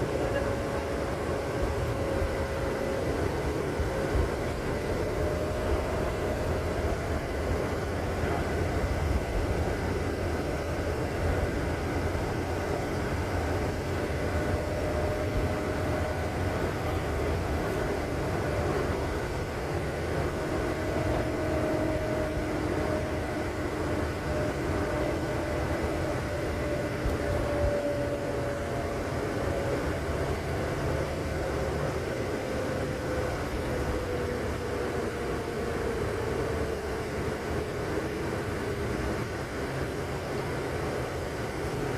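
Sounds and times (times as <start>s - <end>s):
faint whine: 0.0s - 41.9s
vehicle engine rumbling: 0.0s - 41.9s.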